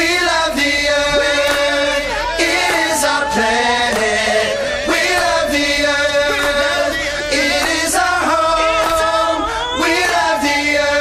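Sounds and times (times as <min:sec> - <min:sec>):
chanted vocal notes: 0:00.0 - 0:11.0.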